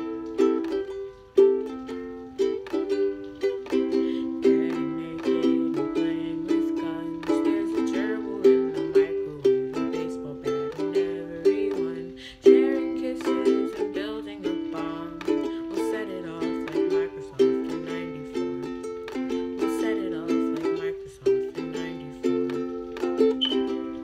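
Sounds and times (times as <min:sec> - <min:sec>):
acoustic string instrument strumming: 0:00.0 - 0:24.0.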